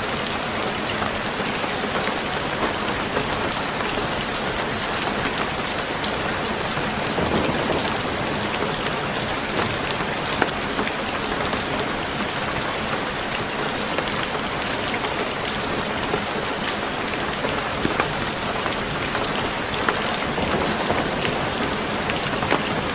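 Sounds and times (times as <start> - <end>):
steady rain on a roof: 0.0 - 22.9.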